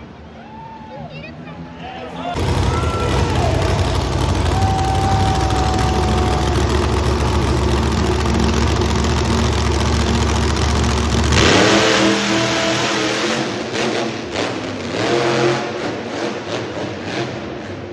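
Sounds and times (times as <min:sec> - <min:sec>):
truck engine rumbling and revving: 0:02.3 - 0:17.9.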